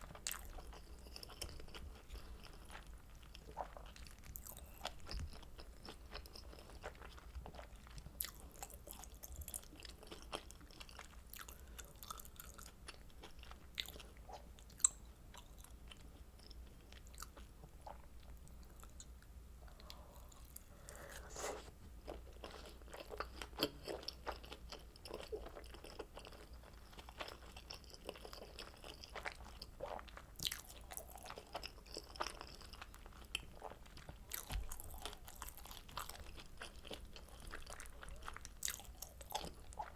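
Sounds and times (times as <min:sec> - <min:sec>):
chewing with wet mouth clicks: 0:00.0 - 0:20.7, 0:22.1 - 0:39.9.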